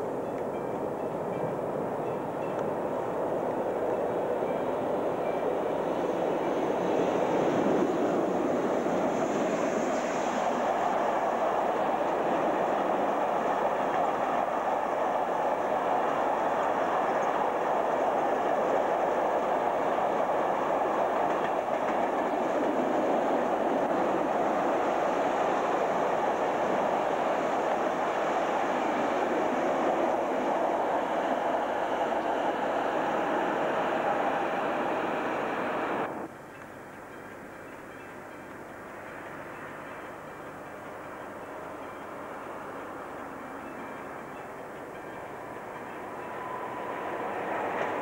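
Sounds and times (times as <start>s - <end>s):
freight train wheels on rails: 0.0s - 48.0s.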